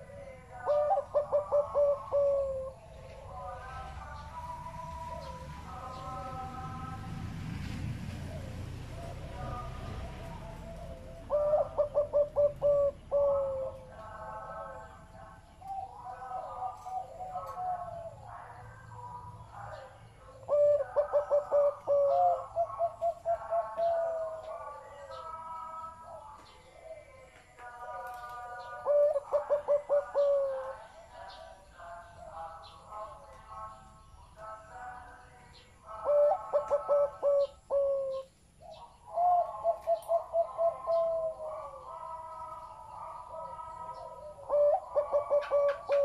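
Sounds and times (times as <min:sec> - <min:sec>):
dove cooing: 0:00.0 - 0:06.8, 0:10.3 - 0:33.7, 0:35.8 - 0:46.0.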